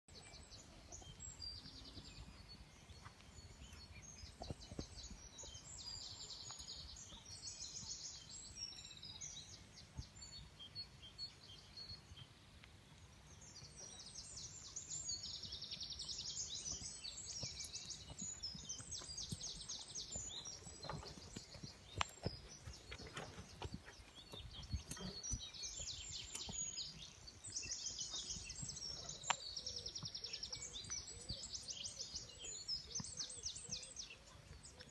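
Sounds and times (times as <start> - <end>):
small birds singing: 0.1 - 34.9.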